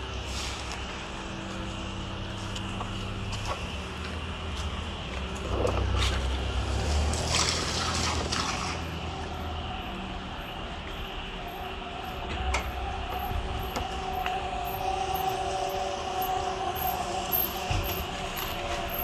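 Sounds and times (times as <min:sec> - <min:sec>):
steady hum: 0:00.0 - 0:07.0, 0:08.9 - 0:19.0.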